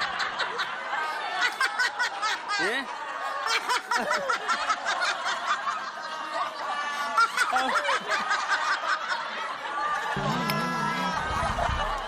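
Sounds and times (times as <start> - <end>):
people laughing together: 0.0 - 12.0.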